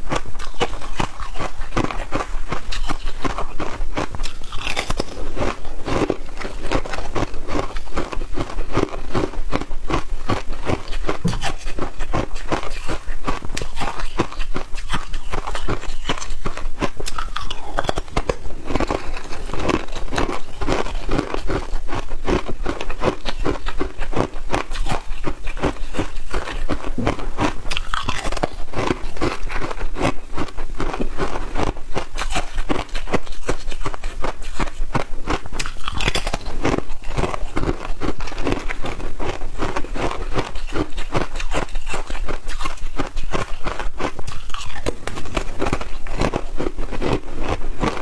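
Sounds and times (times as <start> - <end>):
ice being chewed: 0.0 - 48.0.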